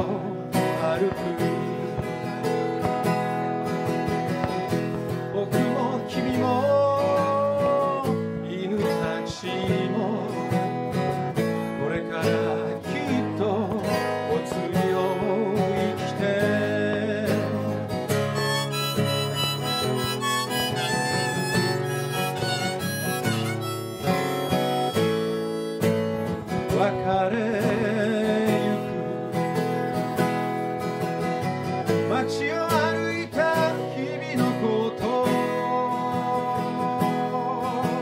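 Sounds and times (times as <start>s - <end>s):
harmonica melody: 0.0s - 38.0s
strummed acoustic guitar: 0.0s - 38.0s.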